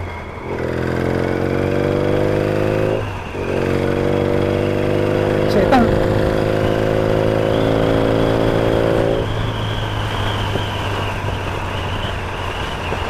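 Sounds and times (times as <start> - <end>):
motorcycle engine running: 0.5 - 13.0.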